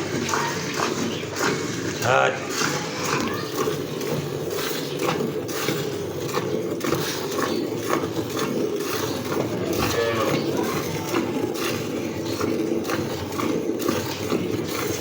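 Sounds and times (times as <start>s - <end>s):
milk squirting into pail: 0.0s - 15.0s.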